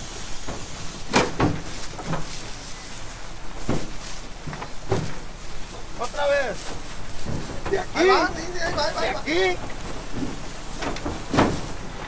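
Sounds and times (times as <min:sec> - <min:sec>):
sacks thudding onto a truck: 0:00.5 - 0:12.0.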